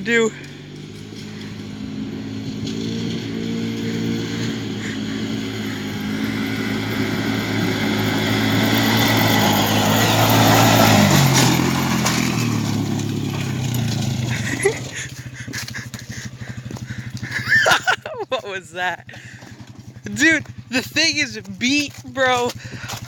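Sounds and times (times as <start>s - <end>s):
riding lawn mower engine: 0.0s - 23.0s.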